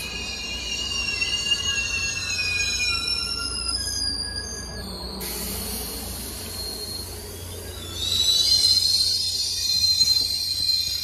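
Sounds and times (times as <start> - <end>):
high metallic squeal: 0.0 - 11.0
train cars rumbling past: 0.0 - 11.0.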